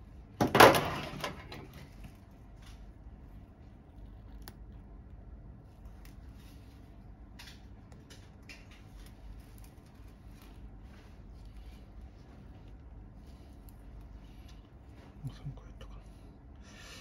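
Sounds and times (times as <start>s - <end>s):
suture thread rustling: 1.7s - 15.4s.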